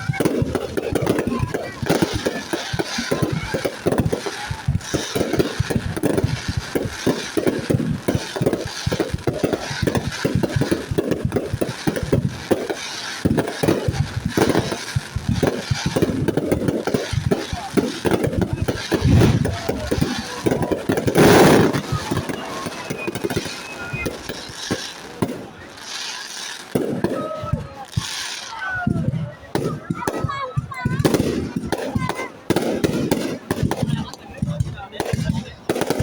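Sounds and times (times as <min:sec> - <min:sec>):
fireworks crackling and banging: 0:00.0 - 0:36.0.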